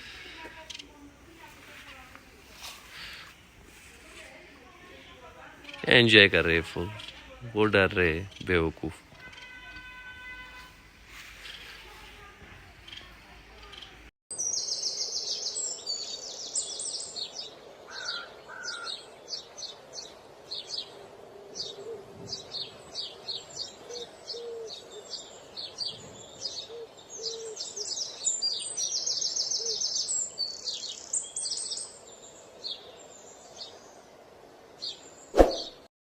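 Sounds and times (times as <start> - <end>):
small birds chirping: 0.0 - 35.8.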